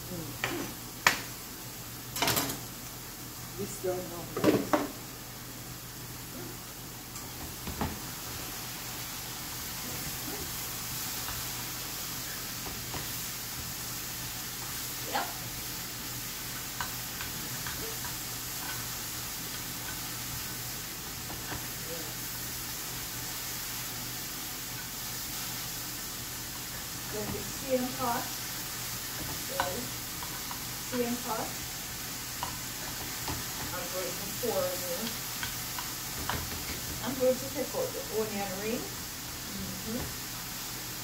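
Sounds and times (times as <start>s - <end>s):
mushrooms and onions sizzling: 0.0s - 41.0s.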